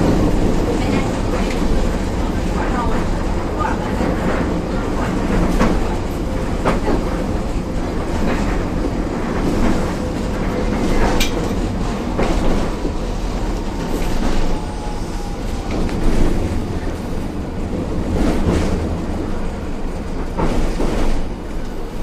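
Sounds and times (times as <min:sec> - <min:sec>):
tram wheels rumbling on track: 0:00.0 - 0:22.0.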